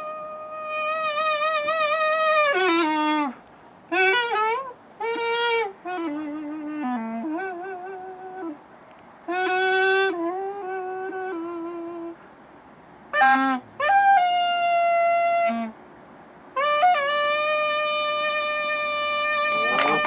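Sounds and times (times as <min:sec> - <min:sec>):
double-reed pipe melody: 0:00.0 - 0:08.6, 0:09.3 - 0:12.2, 0:13.1 - 0:15.8, 0:16.6 - 0:20.0.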